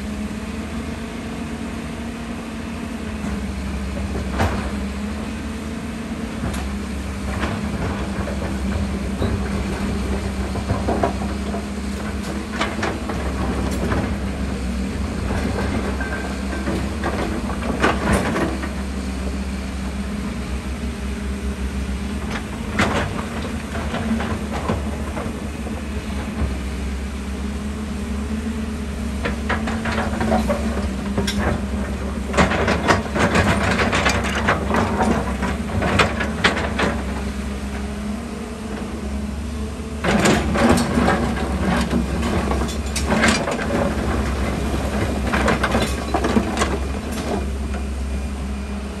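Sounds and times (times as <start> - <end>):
excavator diesel engine droning: 0.0 - 49.0.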